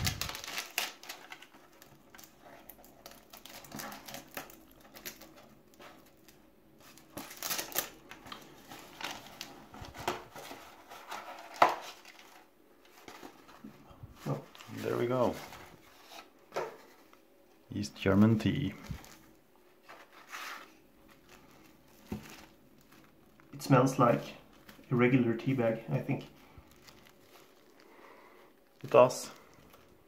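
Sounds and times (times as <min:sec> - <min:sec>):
cellophane wrapper crinkling: 0:00.0 - 0:17.2, 0:18.4 - 0:25.6, 0:26.2 - 0:30.0.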